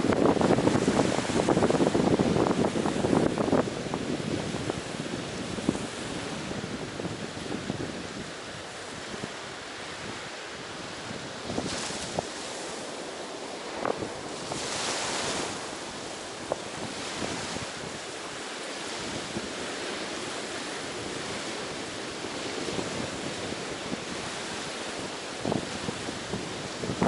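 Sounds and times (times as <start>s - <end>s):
ocean waves washing onto beach: 0.0s - 27.0s
wind buffeting microphone: 0.0s - 27.0s.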